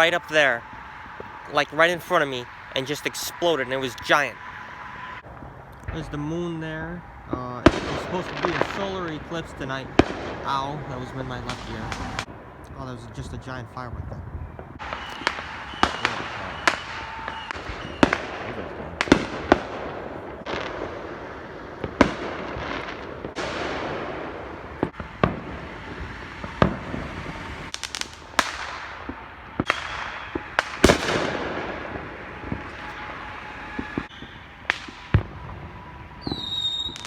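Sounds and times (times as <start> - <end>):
firework bangs echoing: 0.0 - 13.5, 14.4 - 37.0
distant fireworks bangs and crackle: 0.0 - 37.0.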